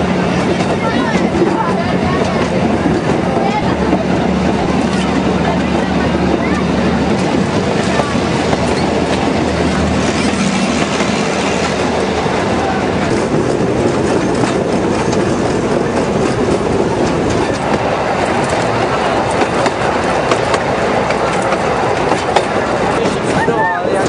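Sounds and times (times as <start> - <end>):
train wheels rumbling on rails: 0.0 - 24.0
wheels clacking over rail joints: 0.0 - 24.0.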